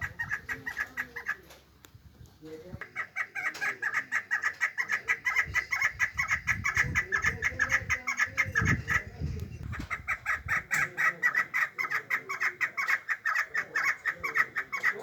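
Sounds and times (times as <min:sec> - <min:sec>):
partridges calling: 0:00.0 - 0:01.7, 0:02.6 - 0:15.0.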